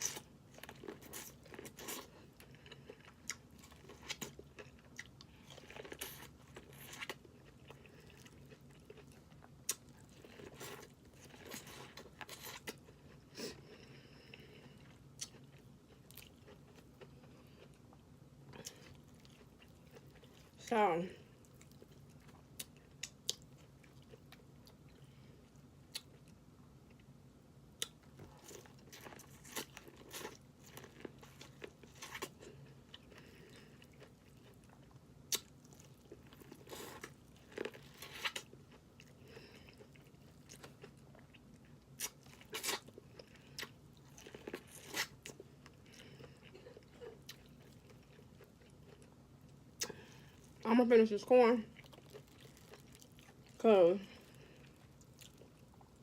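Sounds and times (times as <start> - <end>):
person chewing food: 0.0 - 20.6, 21.2 - 50.6, 51.7 - 56.0.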